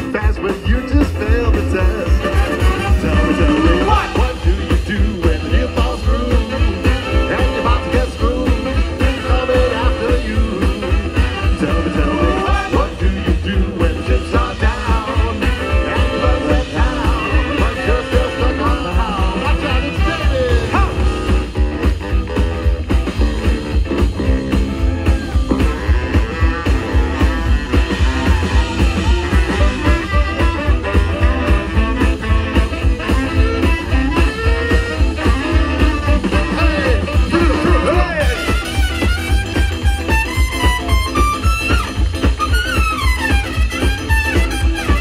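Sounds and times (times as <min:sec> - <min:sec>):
live band playing: 0:00.0 - 0:45.0.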